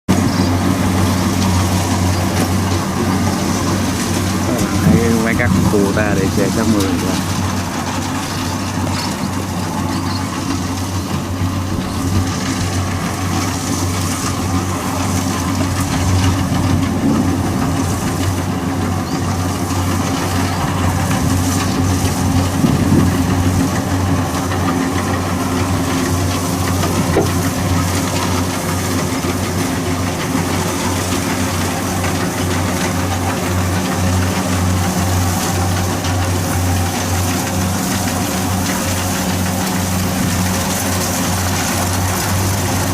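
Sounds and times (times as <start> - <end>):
combine harvester engine droning: 0.1 - 42.9.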